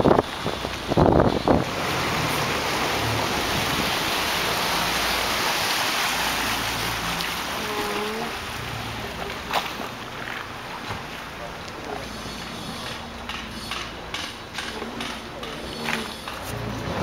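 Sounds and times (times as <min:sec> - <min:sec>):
water rushing along boat hull: 0:00.0 - 0:17.0.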